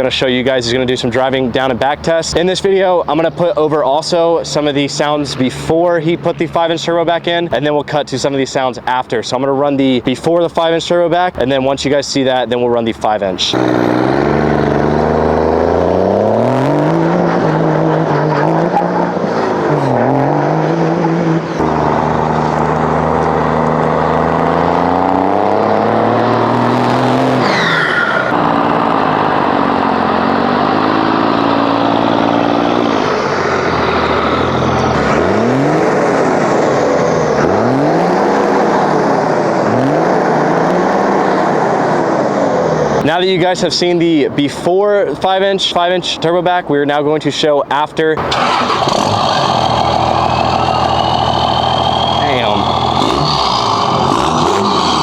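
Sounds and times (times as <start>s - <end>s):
diesel truck accelerating: 0.0s - 46.8s, 47.7s - 55.0s.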